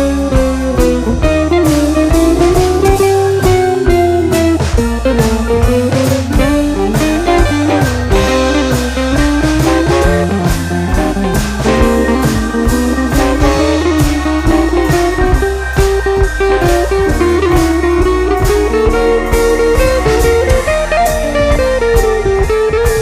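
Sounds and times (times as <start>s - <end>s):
bass: 0.0s - 23.0s
bluesy electric guitar: 0.0s - 23.0s
steady drum beat: 0.0s - 23.0s.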